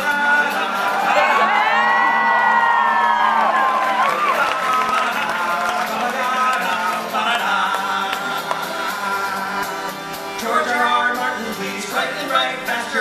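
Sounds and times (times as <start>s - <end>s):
men singing: 0.0s - 2.3s, 3.6s - 13.0s
acoustic guitar strumming: 0.0s - 13.0s.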